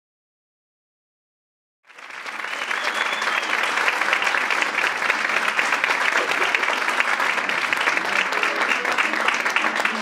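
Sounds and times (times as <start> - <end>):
audience applauding: 1.9 - 10.0.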